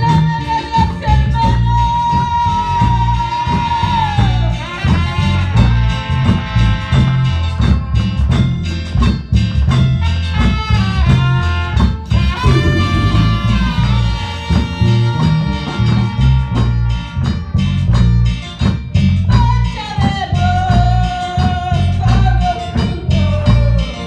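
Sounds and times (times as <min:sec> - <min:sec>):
band playing upbeat worship song: 0:00.0 - 0:24.0.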